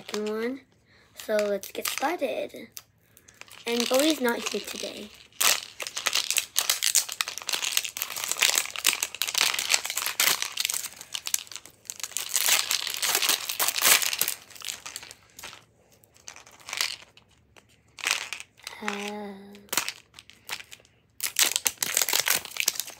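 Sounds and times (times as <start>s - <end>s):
wrapper crinkling and tearing: 0.0s - 0.4s, 1.2s - 2.1s, 3.2s - 22.9s.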